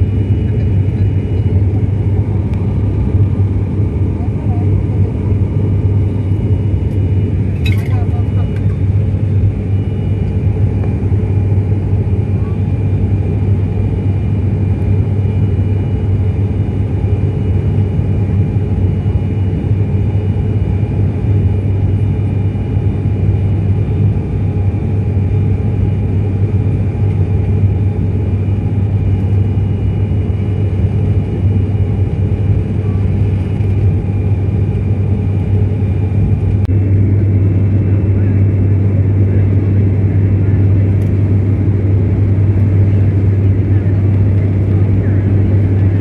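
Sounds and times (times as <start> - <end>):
high engine whine: 0.0 - 46.0
propeller engine drone: 0.0 - 46.0.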